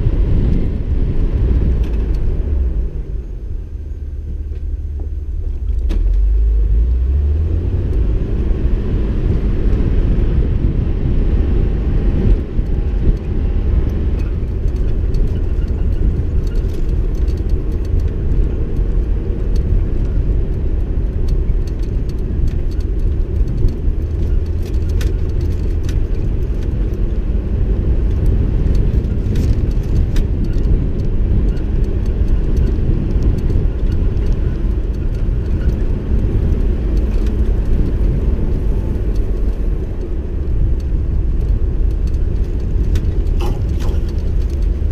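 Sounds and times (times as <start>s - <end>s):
vehicle rumbling on dirt track: 0.0s - 44.9s.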